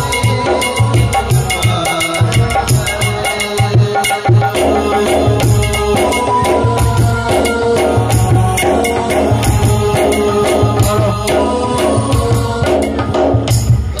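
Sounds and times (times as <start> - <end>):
held melody notes: 0.0 - 13.5
drums keeping a steady beat: 0.0 - 14.0
jingling percussion: 0.0 - 14.0.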